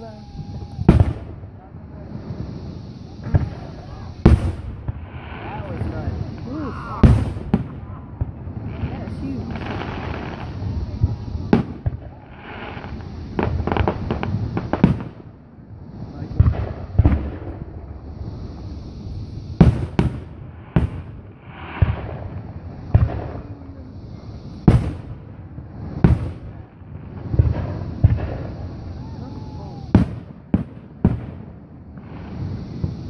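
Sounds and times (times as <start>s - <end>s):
firework shells bursting: 2.2s - 15.4s, 16.0s - 33.0s.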